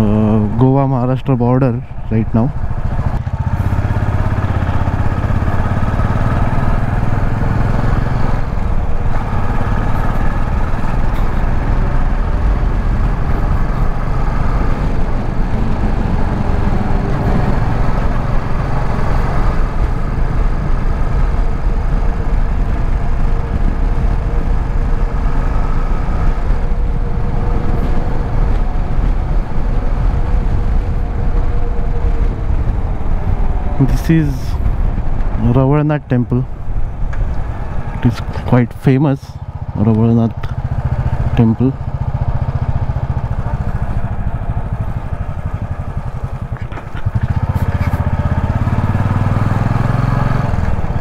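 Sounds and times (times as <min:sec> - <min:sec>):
motorcycle engine running: 0:02.1 - 0:51.0.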